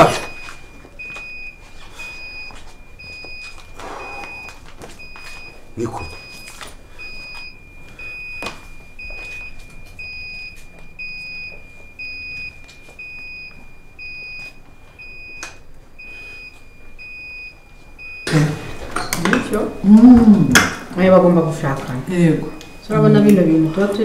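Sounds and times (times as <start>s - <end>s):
alternating electronic beeping: 0.0s - 18.7s, 19.4s - 24.0s.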